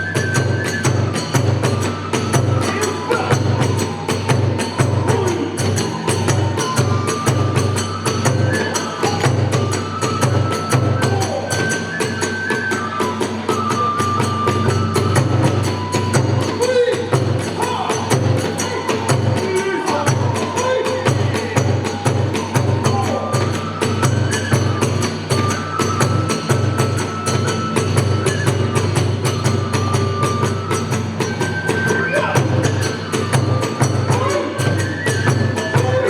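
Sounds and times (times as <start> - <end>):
bamboo flute high notes: 0.0 - 36.0
drum beats: 0.0 - 36.0.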